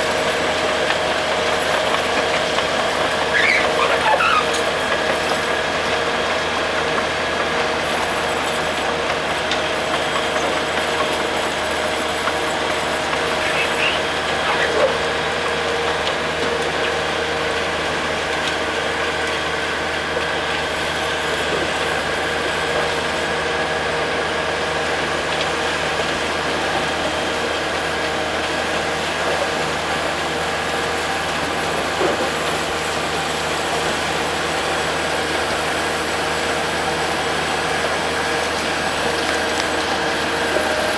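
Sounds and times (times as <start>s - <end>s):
excavator machine drone: 0.0s - 40.9s.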